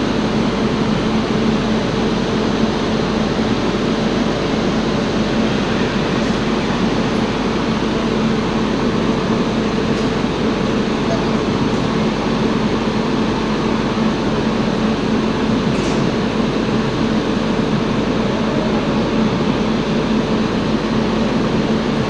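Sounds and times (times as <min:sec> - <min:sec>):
constant hum: 0:00.0 - 0:22.0
train running: 0:00.0 - 0:22.0.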